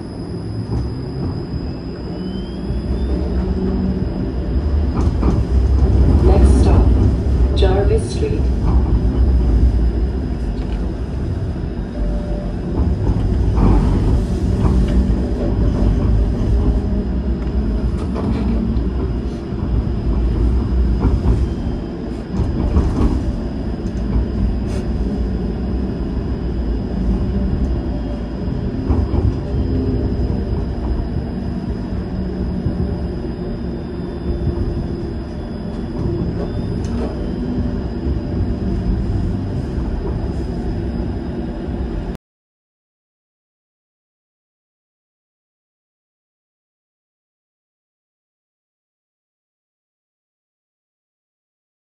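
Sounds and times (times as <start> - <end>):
streetcar wheels and motor rumble: 0.0 - 42.2.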